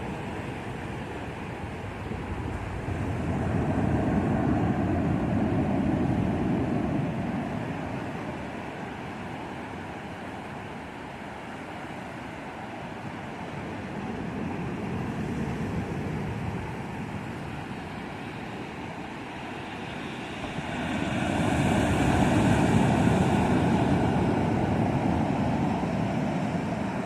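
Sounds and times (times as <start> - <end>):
waves rushing in: 0.0 - 27.0.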